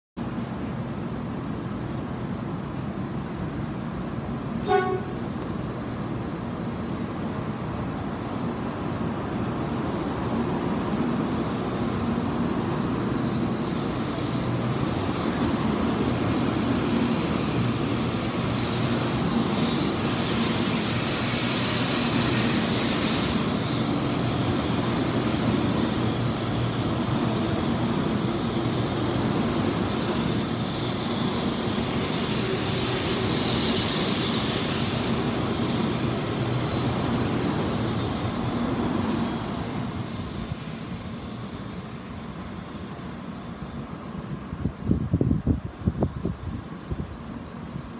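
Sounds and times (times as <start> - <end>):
train running noise: 0.2 - 47.9.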